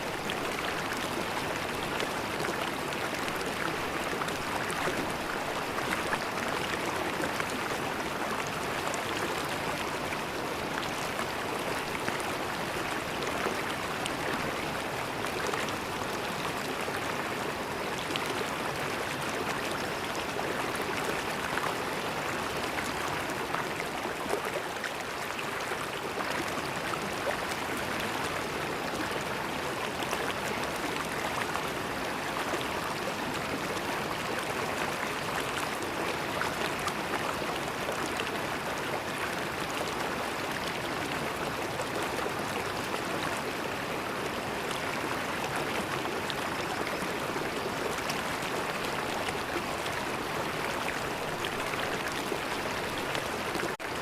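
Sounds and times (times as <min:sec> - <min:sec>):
river water gurgling over stones: 0:00.0 - 0:54.0.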